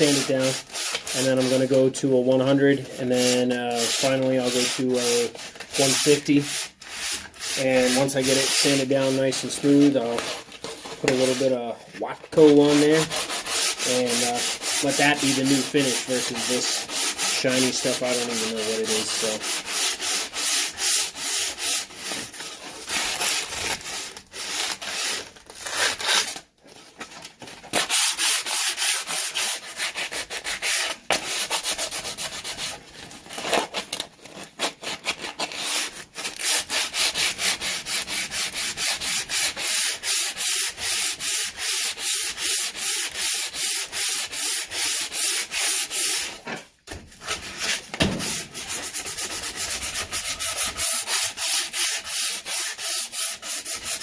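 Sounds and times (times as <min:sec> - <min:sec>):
sandpaper rubbing on wood: 0:00.0 - 0:26.4, 0:27.7 - 0:32.8, 0:34.6 - 0:46.4, 0:47.2 - 0:54.0.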